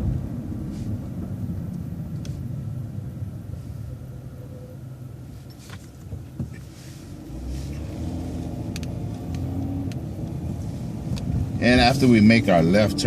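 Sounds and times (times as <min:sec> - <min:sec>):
bus engine: 0:00.0 - 0:13.0.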